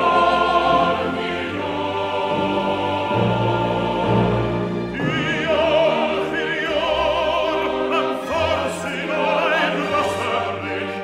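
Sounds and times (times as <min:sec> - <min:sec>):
classical singer with vibrato: 0:00.0 - 0:11.0
orchestral accompaniment: 0:00.0 - 0:11.0.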